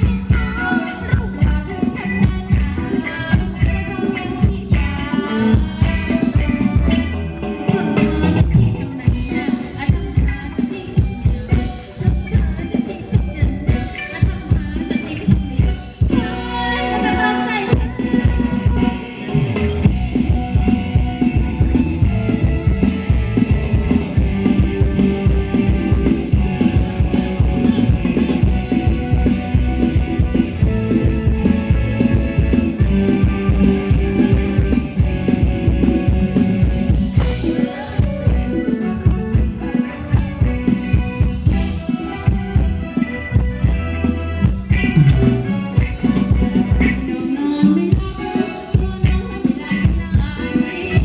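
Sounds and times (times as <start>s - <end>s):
dance band music over loudspeakers: 0.0s - 51.0s.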